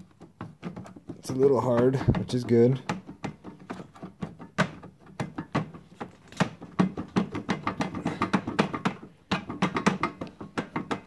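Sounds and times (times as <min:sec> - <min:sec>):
fence adjuster clicking and knocking: 0:00.0 - 0:11.0.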